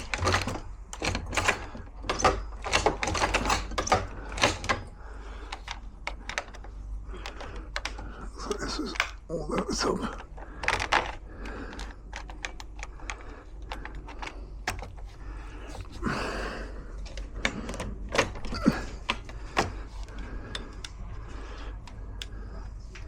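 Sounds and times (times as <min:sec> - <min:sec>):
metal lock parts clicking: 0:00.0 - 0:16.0, 0:16.8 - 0:23.0.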